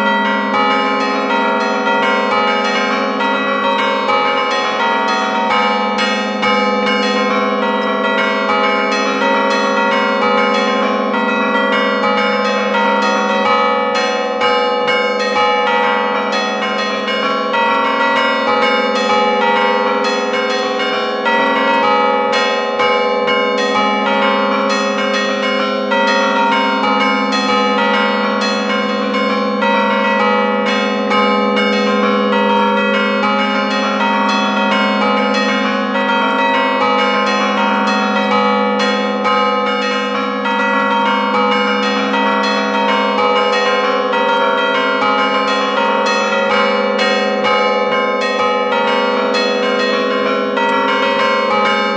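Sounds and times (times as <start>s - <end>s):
church bells ringing melodically: 0.0s - 51.9s.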